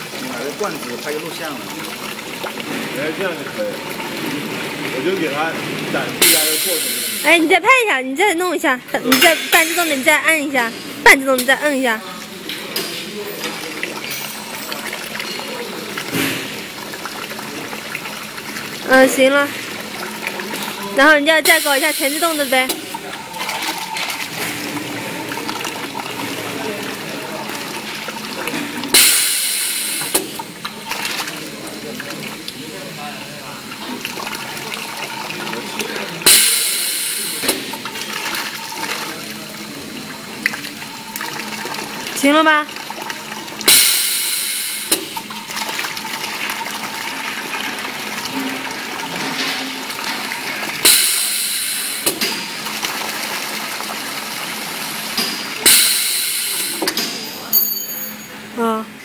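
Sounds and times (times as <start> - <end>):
liquid pouring into container: 0.0 - 7.3, 12.0 - 57.5.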